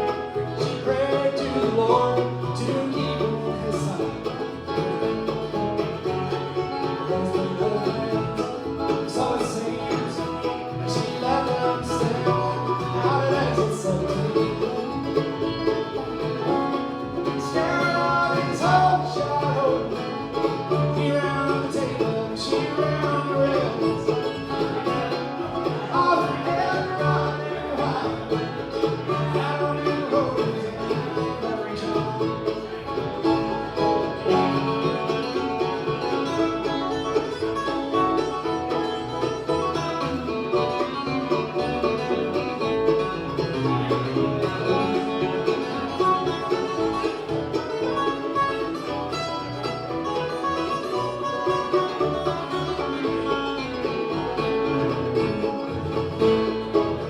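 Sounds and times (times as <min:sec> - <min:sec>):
banjo picking: 0:00.0 - 0:57.0
bluegrass band playing: 0:00.0 - 0:57.0
guitar picking: 0:00.0 - 0:57.0.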